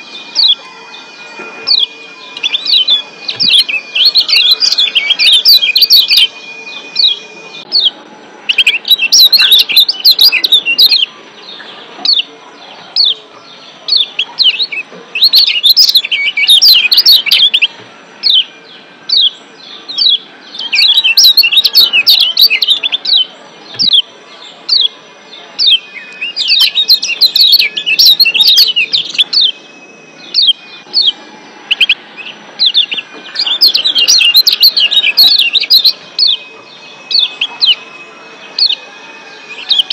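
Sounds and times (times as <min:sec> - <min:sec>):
high bird chirps: 0:00.0 - 0:39.9.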